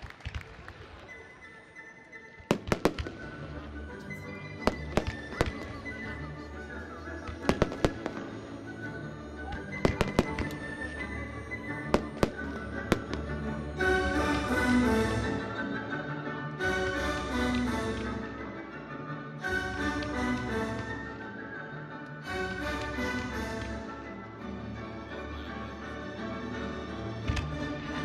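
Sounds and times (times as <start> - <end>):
music: 0.0 - 28.0.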